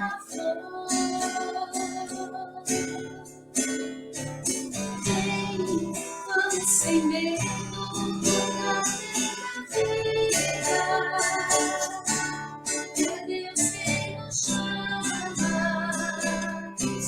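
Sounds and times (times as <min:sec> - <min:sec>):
acoustic guitar strumming: 0:00.0 - 0:17.0
person singing: 0:00.0 - 0:17.0.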